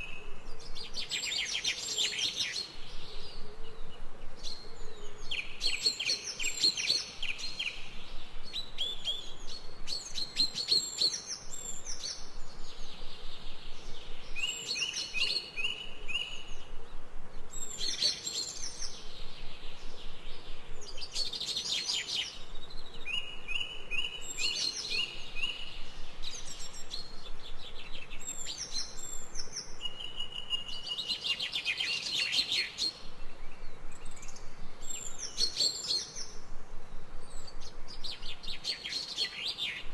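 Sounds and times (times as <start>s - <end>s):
faint steady hiss: 0.0s - 39.9s
forest birds singing: 0.0s - 39.9s.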